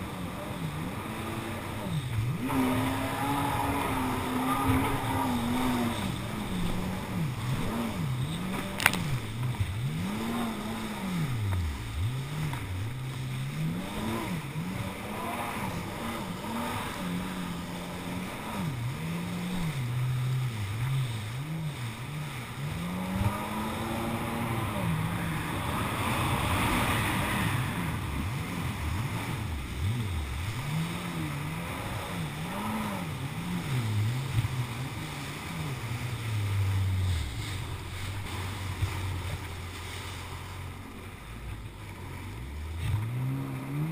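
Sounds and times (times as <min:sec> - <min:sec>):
jet ski engine revving: 0:00.0 - 0:43.9
rushing water and spray: 0:00.0 - 0:43.9.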